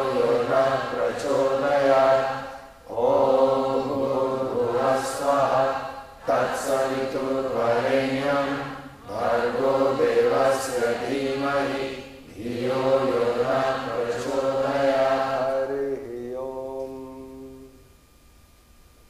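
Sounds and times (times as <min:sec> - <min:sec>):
person chanting mantra: 0:00.0 - 0:17.8.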